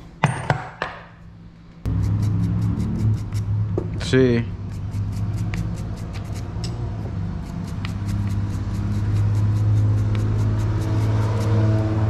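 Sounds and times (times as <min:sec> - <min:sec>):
low hum: 0:01.2 - 0:12.0.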